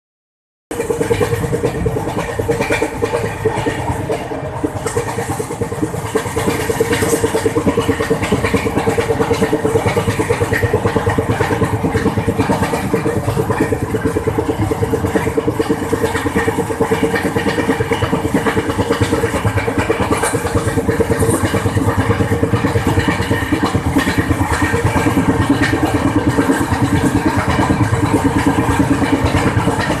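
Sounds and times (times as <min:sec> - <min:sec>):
train wheels beating on rail: 0:00.7 - 0:30.0.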